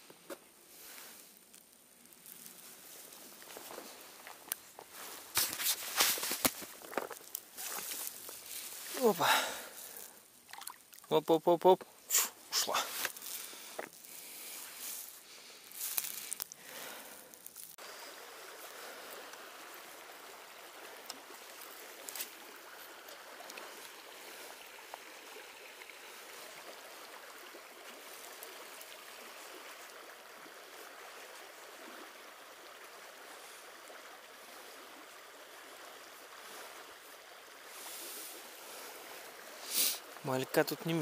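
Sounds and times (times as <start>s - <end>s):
river water rushing: 2.6s - 11.2s, 11.9s - 41.0s.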